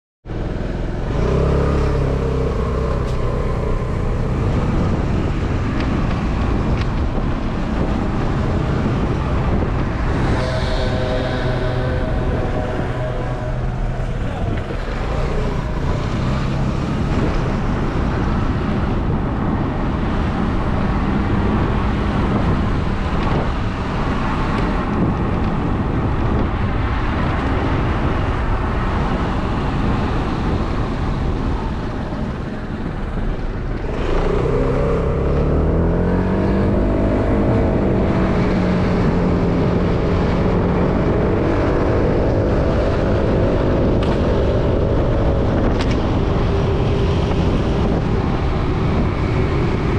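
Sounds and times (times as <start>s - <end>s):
wind noise on microphone: 0.2s - 49.9s
vehicle engine running: 0.3s - 49.9s.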